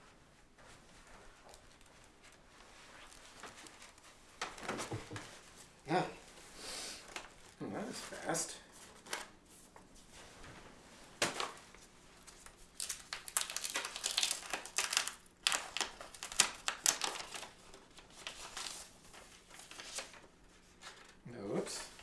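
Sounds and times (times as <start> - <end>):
paper crinkling and rustling: 0.7 - 5.7, 7.0 - 22.0.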